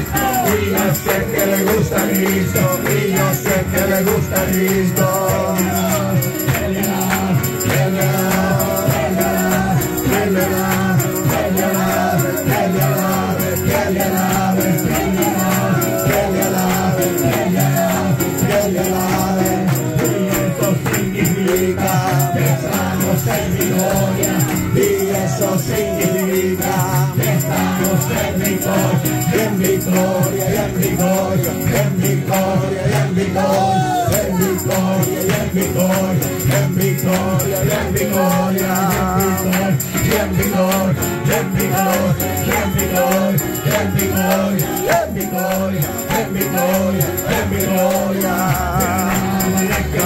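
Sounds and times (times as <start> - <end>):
electronic keyboard: 0.0 - 50.0
hand claps: 0.0 - 50.0
rattling hand percussion: 0.0 - 50.0
voices singing: 0.0 - 50.0.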